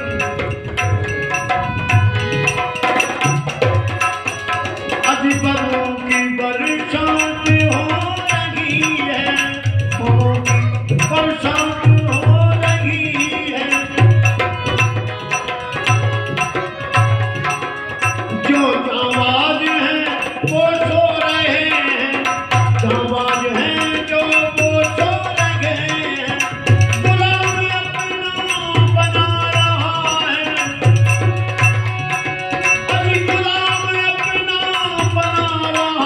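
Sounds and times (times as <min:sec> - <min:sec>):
hand drum: 0:00.0 - 0:19.4, 0:20.2 - 0:36.0
harmonium: 0:00.0 - 0:36.0
man singing: 0:00.0 - 0:36.0.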